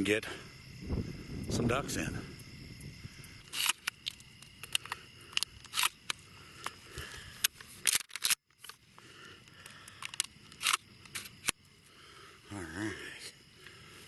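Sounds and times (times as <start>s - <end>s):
faint insect hum: 0.0s - 14.0s.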